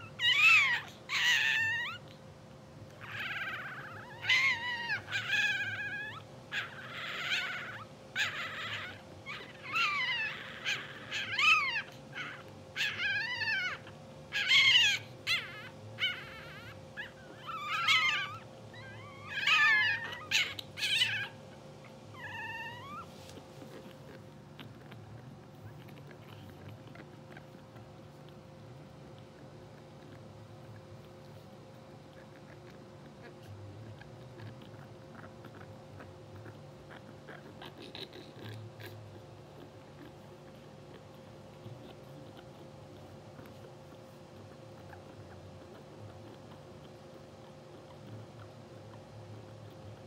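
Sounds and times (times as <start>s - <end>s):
puppies squeaking and crying: 0.0s - 2.3s, 2.9s - 50.0s
faint steady hum: 0.0s - 50.0s.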